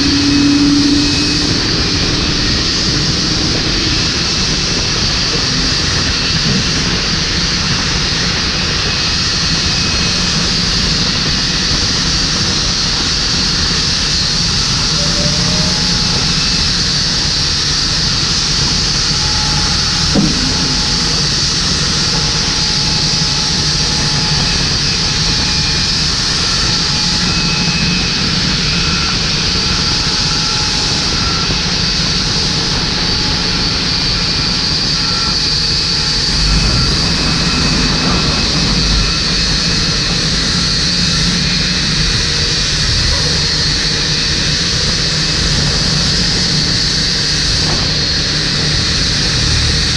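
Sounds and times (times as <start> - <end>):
jet engines idling: 0.0 - 49.9
pushback tug engine running: 0.0 - 49.9.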